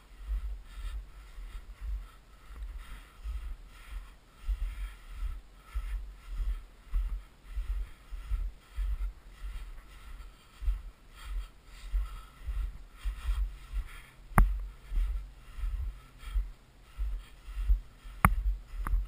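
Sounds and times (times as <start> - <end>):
footsteps crunching in snow: 0.0 - 19.0
wind rumbling on microphone: 0.0 - 19.0.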